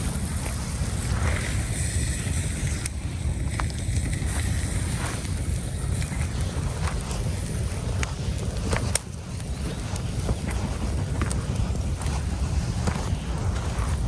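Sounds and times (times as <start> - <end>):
campfire crackling: 0.0 - 14.0
fire popping: 0.0 - 14.0
wind buffeting microphone: 0.0 - 14.0.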